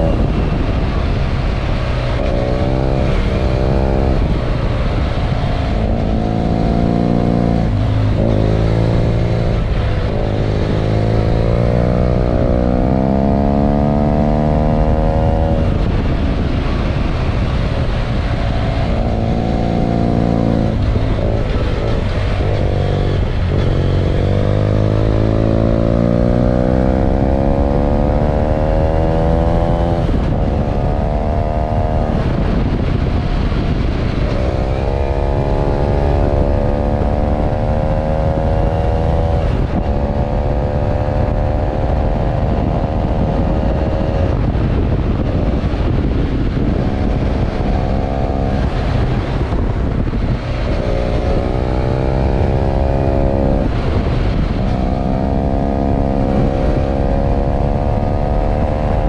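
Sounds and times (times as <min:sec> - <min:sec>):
motorcycle engine revving uphill: 0:00.0 - 0:59.0
wind rushing: 0:00.0 - 0:59.0.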